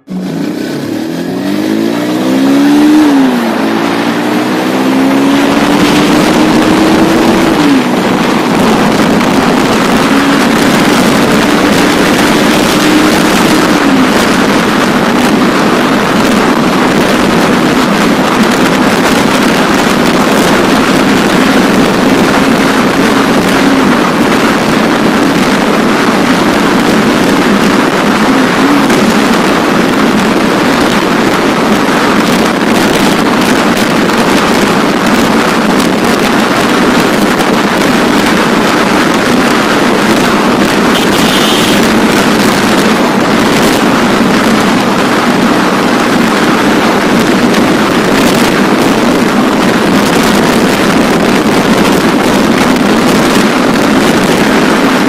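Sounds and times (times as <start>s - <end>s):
motorcycle engine accelerating: 0.0s - 55.0s
wind rush on microphone: 0.0s - 55.0s.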